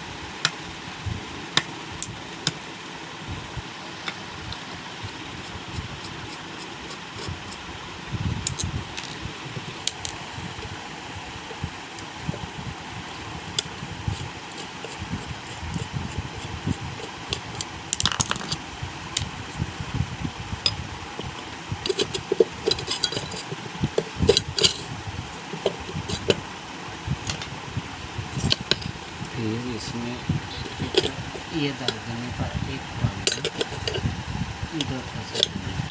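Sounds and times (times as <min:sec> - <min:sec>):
steady background noise: 0:00.0 - 0:35.9.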